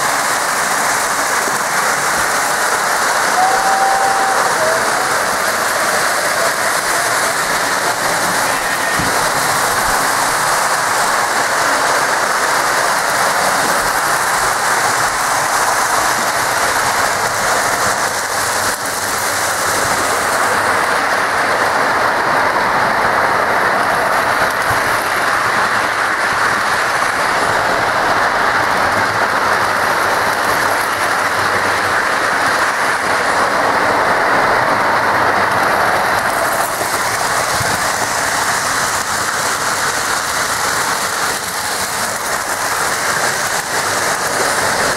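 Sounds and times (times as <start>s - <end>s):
model train wheels rumbling on rails: 0.0s - 44.9s.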